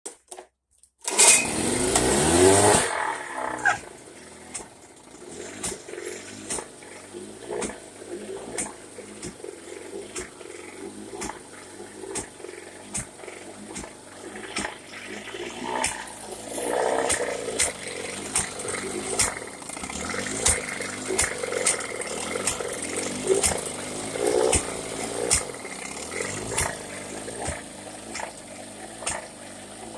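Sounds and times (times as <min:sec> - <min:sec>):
outboard motor running with pops: 0:01.1 - 0:29.9.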